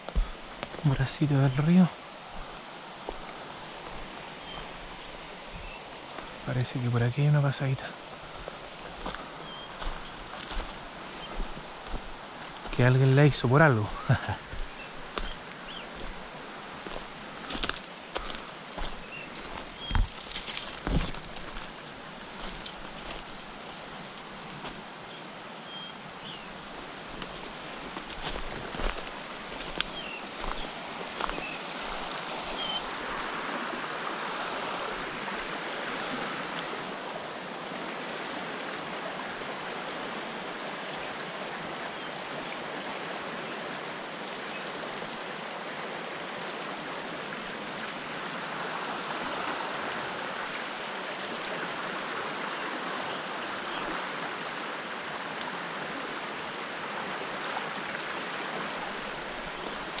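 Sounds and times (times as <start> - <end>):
fast-flowing river water: 0.0 - 60.0.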